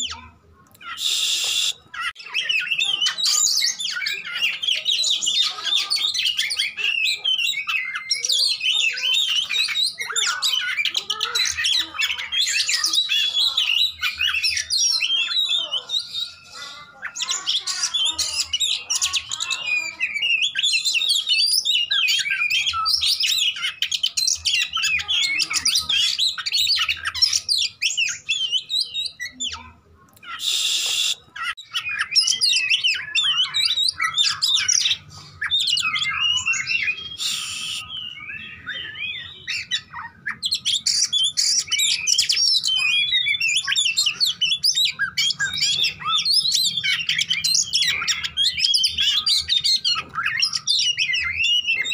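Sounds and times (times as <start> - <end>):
harsh bird call: 0.0 - 29.6, 30.2 - 51.9
songbird whistles and trills: 0.0 - 51.9.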